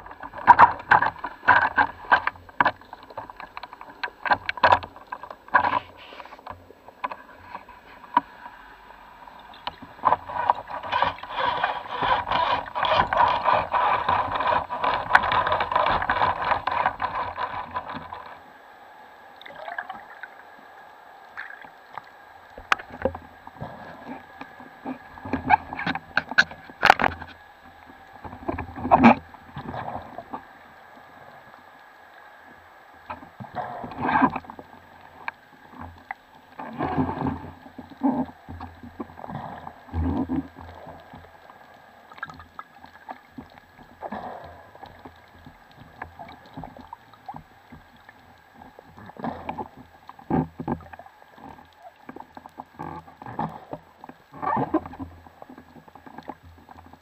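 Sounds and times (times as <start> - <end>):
underwater swishes and knocks: 0.0 - 18.5, 21.3 - 31.9, 33.0 - 57.0
underwater rush of water: 0.0 - 57.0.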